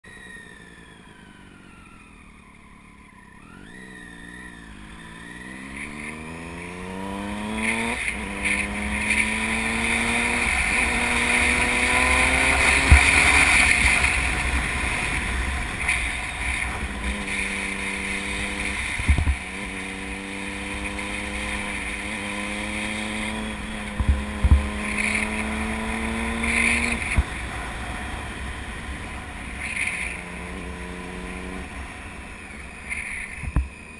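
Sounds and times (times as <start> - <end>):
vehicle engine accelerating: 0.1 - 33.9.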